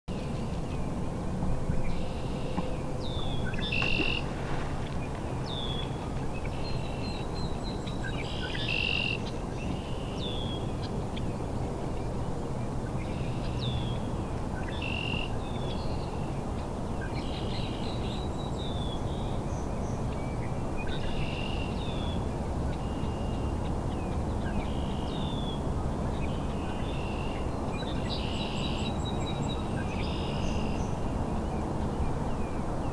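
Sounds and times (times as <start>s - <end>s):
birds chirping: 0.1s - 32.9s.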